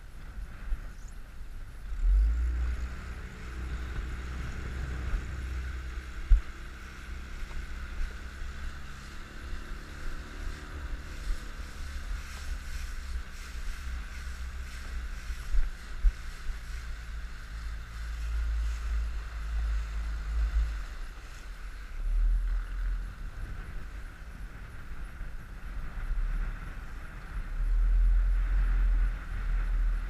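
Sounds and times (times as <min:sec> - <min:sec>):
wind buffeting microphone: 0:00.0 - 0:30.0
outboard motor running: 0:01.7 - 0:30.0.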